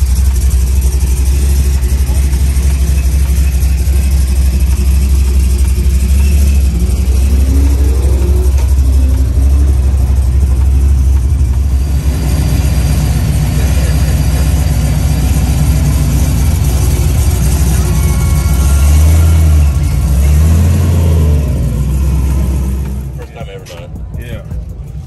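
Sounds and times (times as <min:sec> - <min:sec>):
truck engine revving: 0:00.0 - 0:25.0
truck engines idling: 0:00.0 - 0:25.0.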